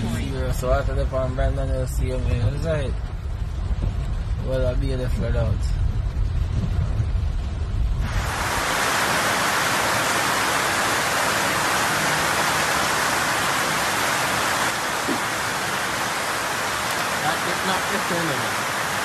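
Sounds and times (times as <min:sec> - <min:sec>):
car driving through floodwater: 0:00.0 - 0:19.0
heavy rain pouring: 0:00.0 - 0:19.0.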